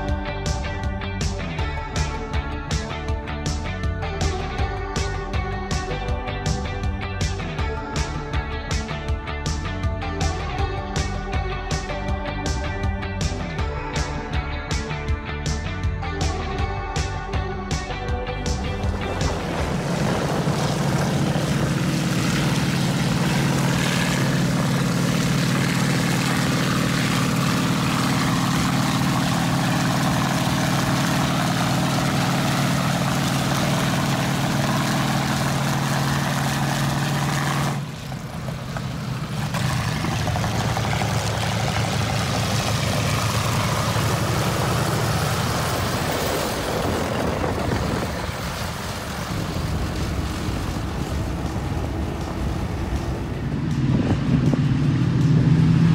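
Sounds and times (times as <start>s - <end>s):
engine and track rumble: 0.0s - 55.9s
tracked vehicle engine drone: 0.0s - 55.9s.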